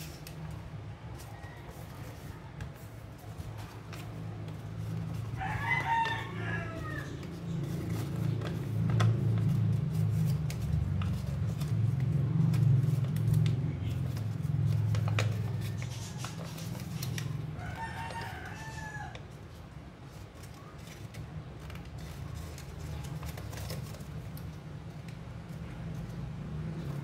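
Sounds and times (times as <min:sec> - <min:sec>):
paper crinkling and creasing: 0:00.0 - 0:27.0.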